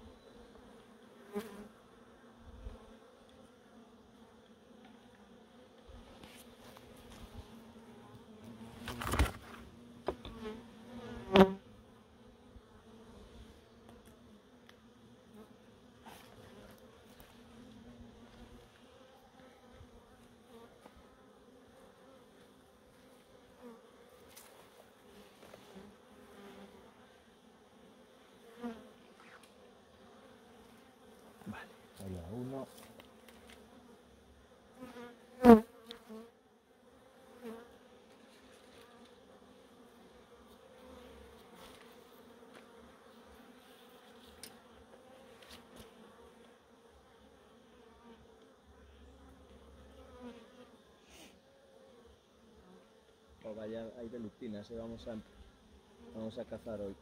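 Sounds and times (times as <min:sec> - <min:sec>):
bees buzzing: 0:00.0 - 0:53.4.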